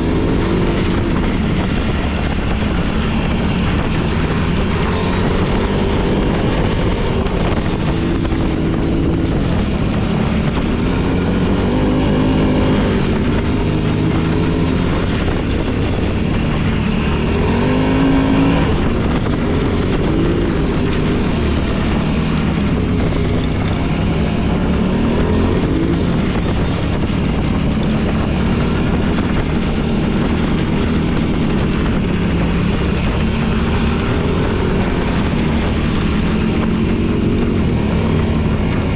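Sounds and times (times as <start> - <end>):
off-road vehicle engine revving: 0.0 - 38.9
rumble of vehicle ride: 0.0 - 38.9.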